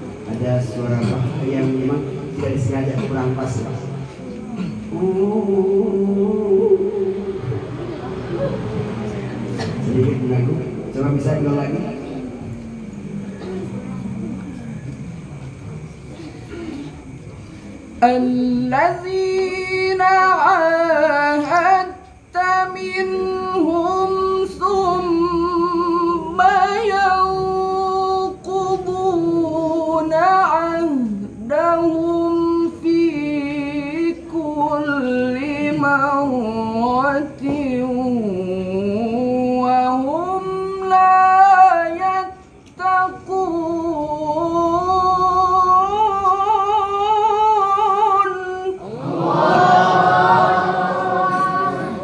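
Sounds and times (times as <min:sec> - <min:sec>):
man chanting melodically: 0:00.0 - 0:07.5, 0:09.8 - 0:12.4, 0:18.0 - 0:52.0.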